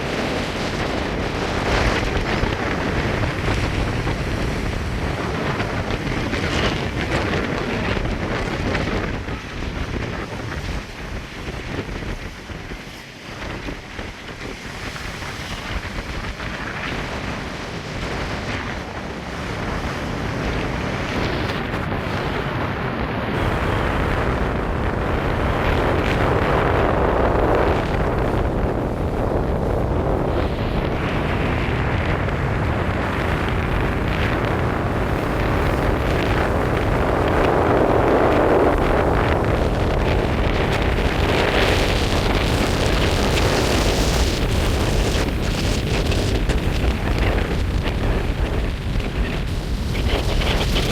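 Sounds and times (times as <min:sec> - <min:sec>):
ocean surf breaking: 0:00.0 - 0:50.9
strong wind buffeting microphone: 0:00.0 - 0:50.9.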